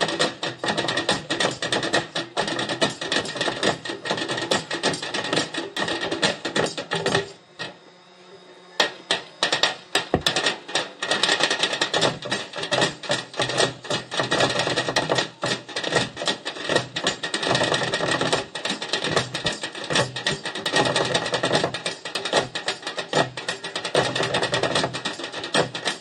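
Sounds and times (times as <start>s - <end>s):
drummers beating on buckets: 0.0s - 7.4s, 8.8s - 26.0s.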